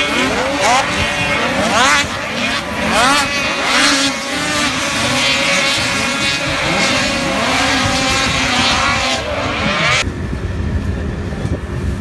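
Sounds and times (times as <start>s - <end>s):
snowmobile engines revving: 0.0s - 10.3s.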